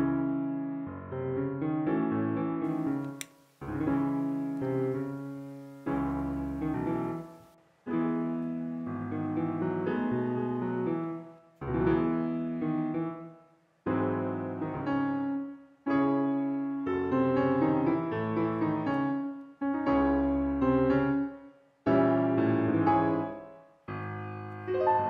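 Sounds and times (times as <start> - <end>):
solo piano chords: 0.0 - 25.0.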